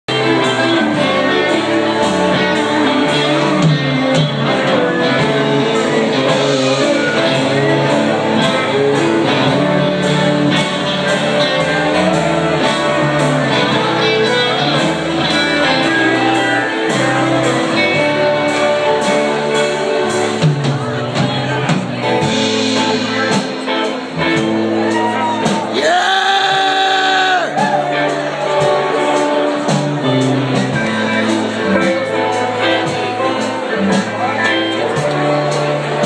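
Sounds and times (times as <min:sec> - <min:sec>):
live band playing: 0:00.1 - 0:36.0.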